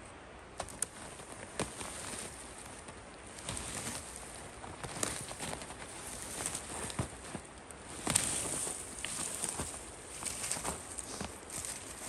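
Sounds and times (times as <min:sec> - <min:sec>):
light knocks and crunches: 0:00.5 - 0:12.0.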